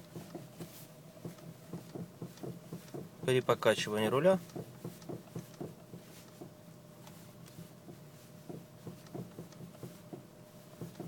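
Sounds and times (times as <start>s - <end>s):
steady low hum: 0.0s - 11.0s
steering rack knocking: 0.1s - 6.6s, 7.8s - 11.0s.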